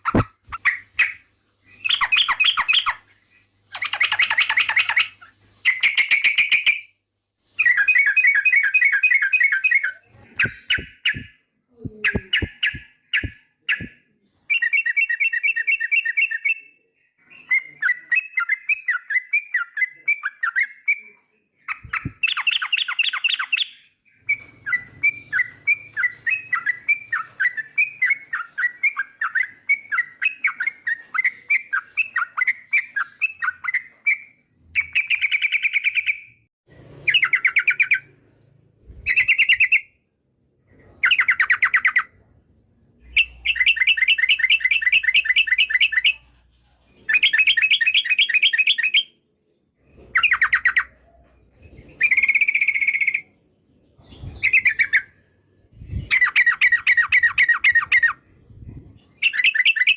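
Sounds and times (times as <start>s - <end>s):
bird chirping and chattering: 0.0s - 36.4s, 37.0s - 40.0s, 40.7s - 42.3s, 43.0s - 49.2s, 49.8s - 59.9s.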